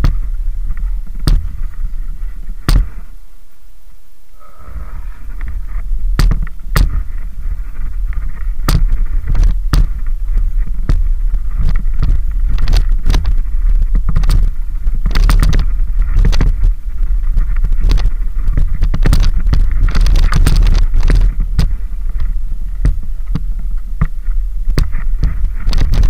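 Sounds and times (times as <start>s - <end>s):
bike clacks and rattles: 0.0s - 3.0s, 5.4s - 26.0s
bike tyres rumbling on gravel: 0.0s - 3.3s, 4.3s - 26.0s.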